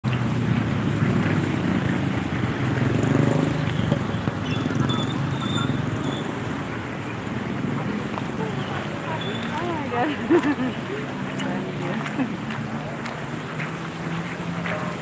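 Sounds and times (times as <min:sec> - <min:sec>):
cars passing on wet road: 0:00.0 - 0:15.0
motorbikes passing: 0:00.0 - 0:15.0.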